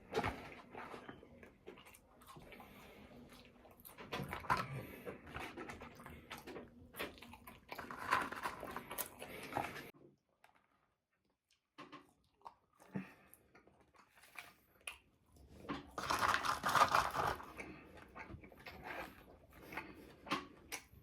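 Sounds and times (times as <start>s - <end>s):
chewing and biting: 0.0s - 9.9s, 11.5s - 21.0s.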